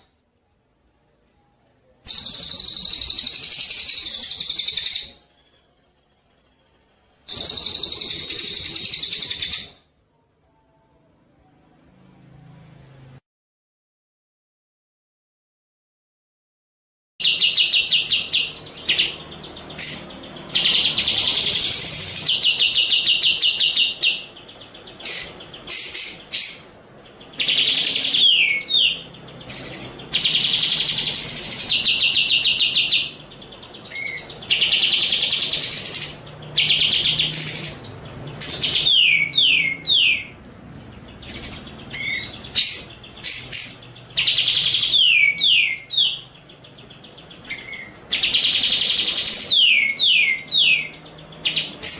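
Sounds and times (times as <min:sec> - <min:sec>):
songbird trills and whistles: 0:00.9 - 0:12.1, 0:17.2 - 0:40.3, 0:41.2 - 0:51.9.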